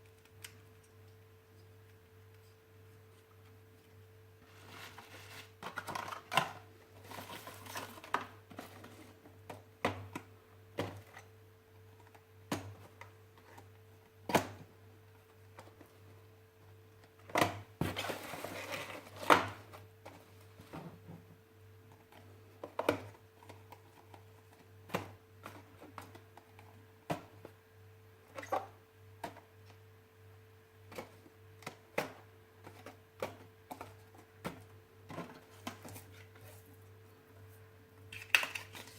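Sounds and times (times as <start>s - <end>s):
faint electrical hum: 0.0s - 38.9s.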